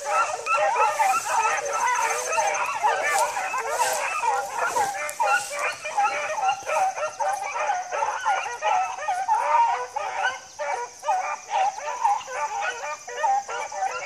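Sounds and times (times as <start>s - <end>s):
pack of hounds baying: 0.0s - 14.0s.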